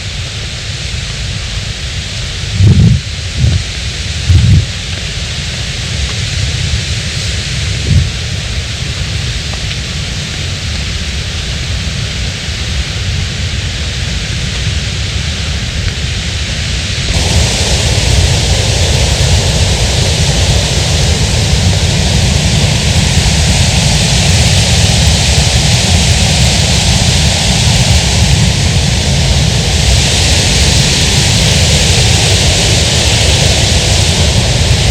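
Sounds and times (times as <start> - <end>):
deep unsteady rumble: 0.0 - 34.9
loud steady rushing noise: 0.0 - 34.9.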